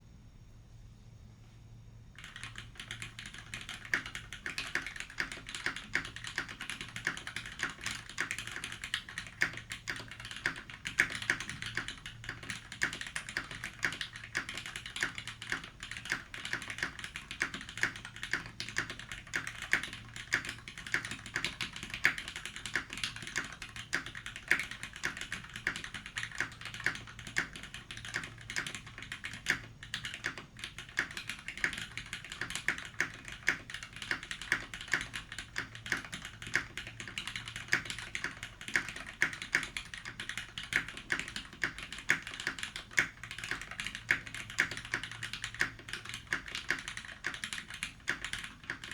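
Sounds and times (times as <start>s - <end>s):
mechanical keyboard typing: 2.2s - 48.9s.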